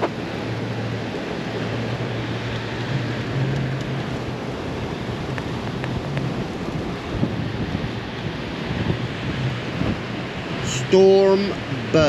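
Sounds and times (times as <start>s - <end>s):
driving rain: 0.0s - 12.0s
strong wind buffeting microphone: 0.0s - 12.0s.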